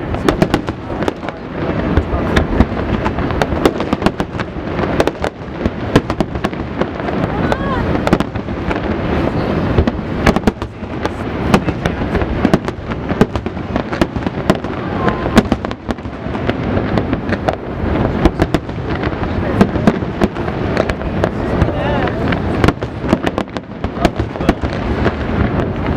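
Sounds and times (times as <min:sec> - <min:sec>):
fireworks bangs and crackles: 0:00.0 - 0:25.9.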